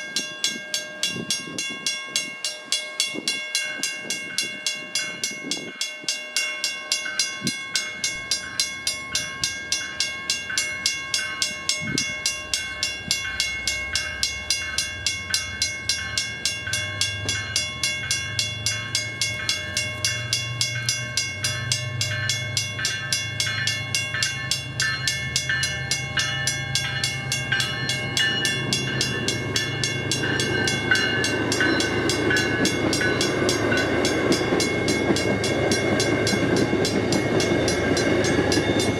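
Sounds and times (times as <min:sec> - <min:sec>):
railroad crossing bell ringing: 0:00.0 - 0:38.9
train rumble: 0:00.0 - 0:38.9.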